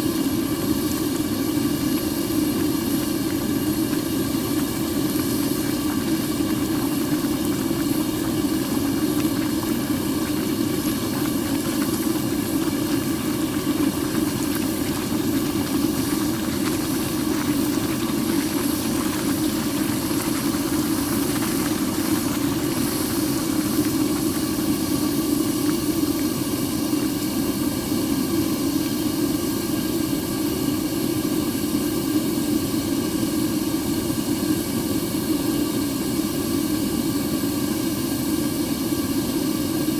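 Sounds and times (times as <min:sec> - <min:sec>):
furnace burner rushing: 0:00.0 - 0:39.9.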